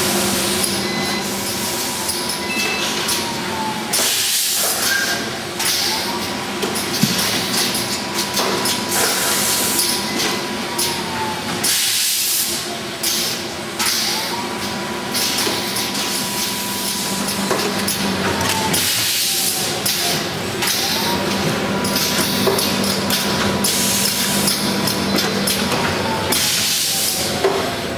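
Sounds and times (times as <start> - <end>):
machine whine: 0.0 - 27.9.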